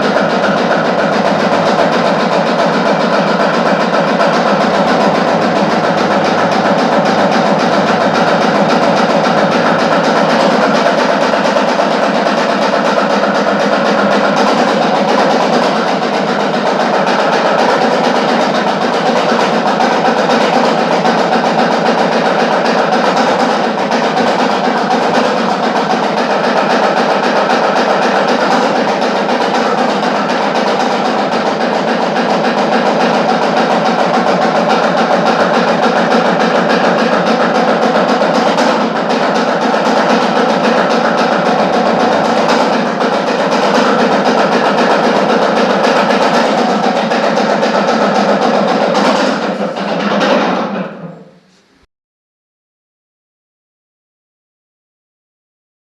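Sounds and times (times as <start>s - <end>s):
fast drum roll: 0.0s - 51.1s
layered percussion: 0.0s - 51.2s.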